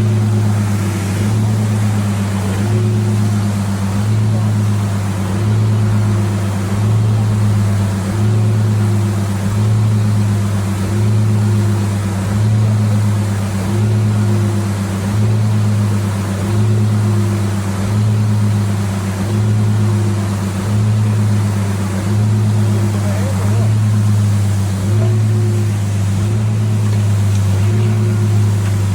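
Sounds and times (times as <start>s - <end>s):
motor humming: 0.0s - 28.9s.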